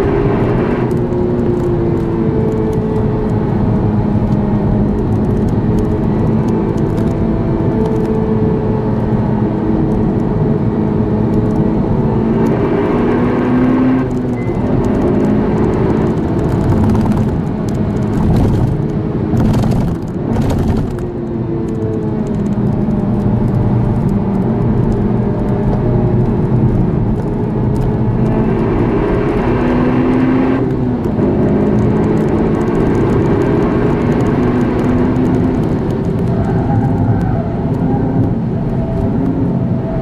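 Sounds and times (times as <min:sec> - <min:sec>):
car engine revving: 0:00.0 - 0:40.0
road and tyre rumble: 0:00.0 - 0:40.0.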